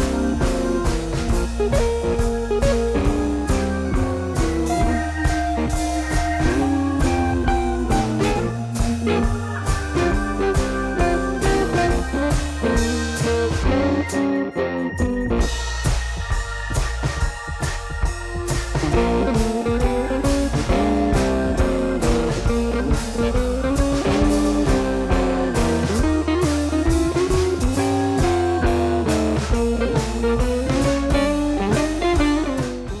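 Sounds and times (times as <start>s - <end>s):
bass: 0.0s - 33.0s
blues guitar tune: 0.0s - 33.0s
drums: 0.0s - 33.0s.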